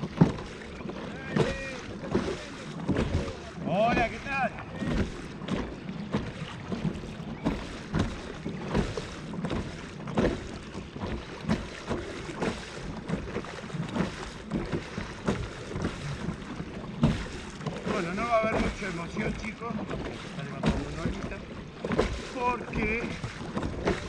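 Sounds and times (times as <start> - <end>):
paddle water splashes: 0.0 - 24.0.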